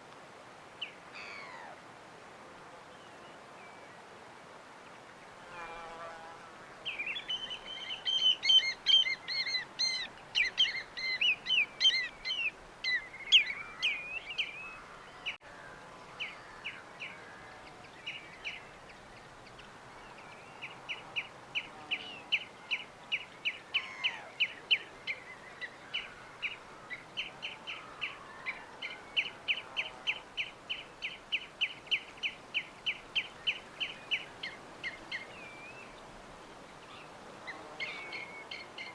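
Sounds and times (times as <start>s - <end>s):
faint steady hiss: 0.0s - 38.9s
songbirds singing: 4.8s - 38.9s.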